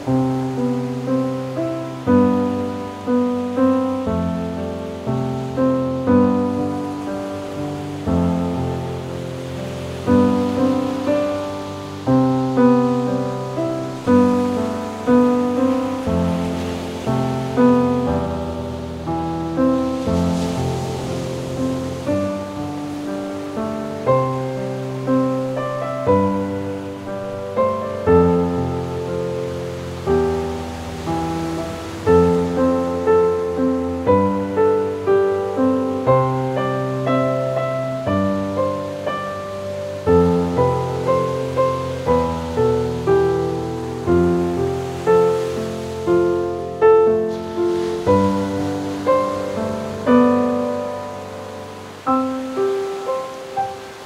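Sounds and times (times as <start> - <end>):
ocean waves: 0.0 - 54.0
solo piano music: 0.0 - 54.0.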